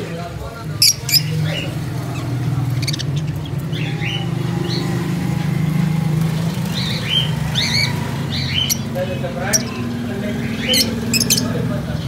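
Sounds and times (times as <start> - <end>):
budgerigars chirping: 0.7 - 12.0.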